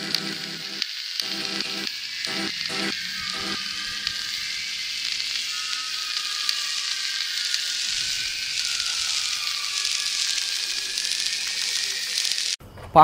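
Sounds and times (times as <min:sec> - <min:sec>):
faint falling tone: 0:00.0 - 0:12.0
steady hissing noise: 0:00.0 - 0:12.6.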